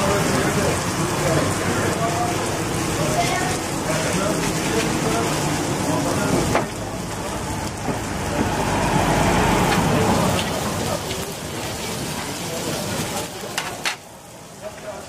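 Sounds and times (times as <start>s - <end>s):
fish sizzling on a griddle: 0.0s - 15.0s.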